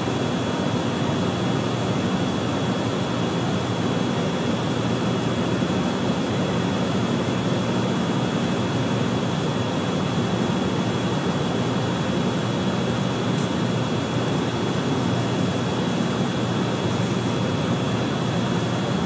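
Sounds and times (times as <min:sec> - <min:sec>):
high-pitched whine: 0:00.0 - 0:19.0
steady hiss and hum: 0:00.0 - 0:19.0.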